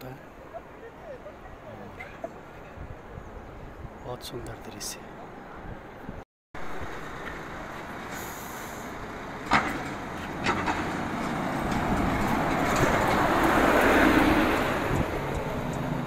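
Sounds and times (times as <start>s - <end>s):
bus engine and tyre noise: 0.0s - 16.0s.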